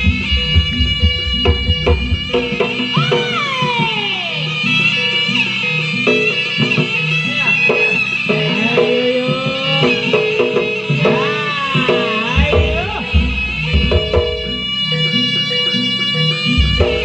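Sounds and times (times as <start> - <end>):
drum patterns: 0.0 - 17.0
shrill reed shawm melody: 0.0 - 17.0.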